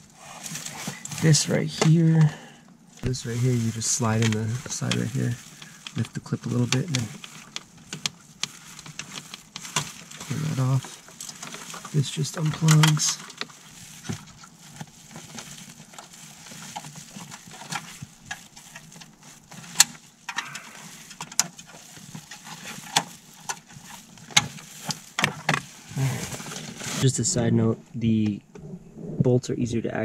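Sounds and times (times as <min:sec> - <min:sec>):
light rustling: 0:00.0 - 0:27.1.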